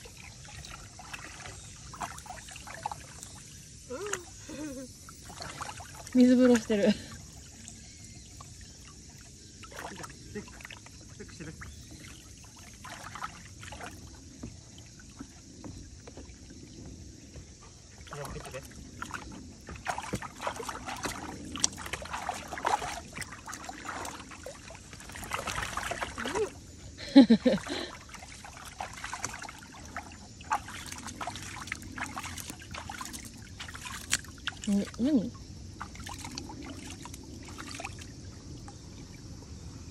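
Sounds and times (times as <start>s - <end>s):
dog splashing water in tub: 0.0s - 3.5s, 5.2s - 14.2s, 18.0s - 38.1s.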